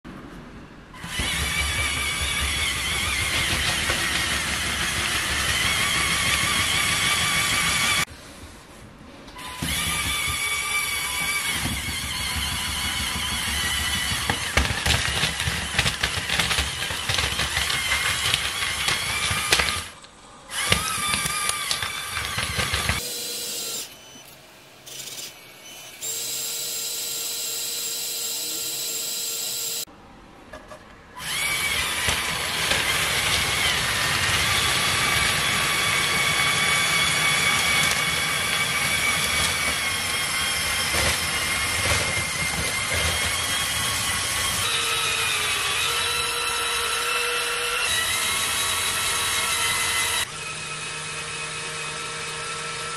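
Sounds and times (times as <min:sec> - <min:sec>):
toy electric motors whirring: 0:01.0 - 0:08.1, 0:09.4 - 0:29.9, 0:31.2 - 0:50.7.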